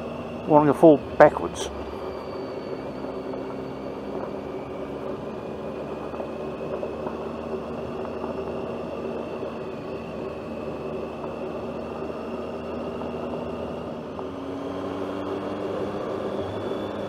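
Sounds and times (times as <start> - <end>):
faint high whine: 0.0 - 17.0
motorcycle engine running: 0.0 - 17.0.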